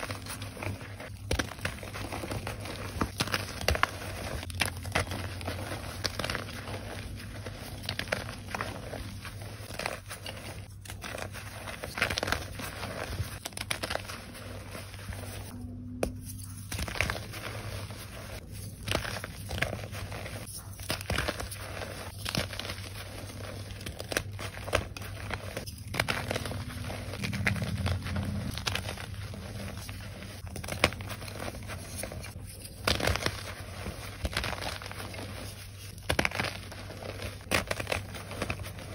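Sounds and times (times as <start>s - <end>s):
hands crumbling chalk: 0.0s - 38.9s.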